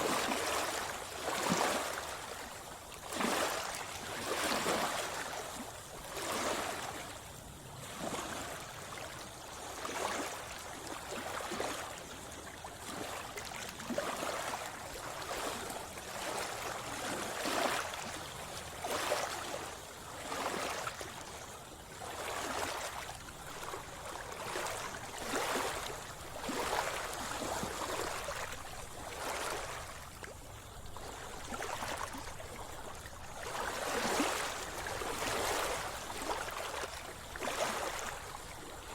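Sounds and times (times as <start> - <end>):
sea water splashing: 0.0 - 38.9.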